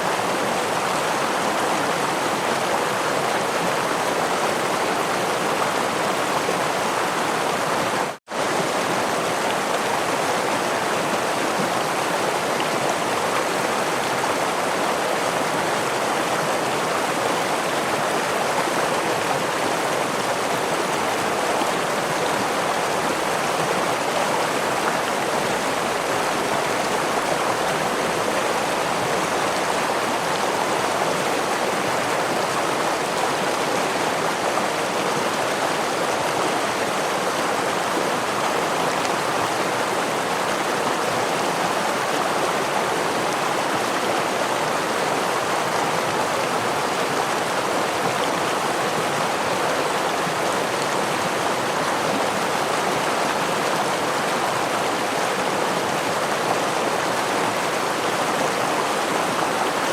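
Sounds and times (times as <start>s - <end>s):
stream with small waterfall: 0.0s - 59.9s.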